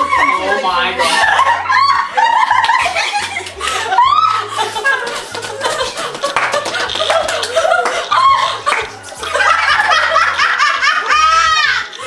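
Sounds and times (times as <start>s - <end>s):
excited voices: 0.0s - 12.0s
laughter: 0.0s - 12.0s.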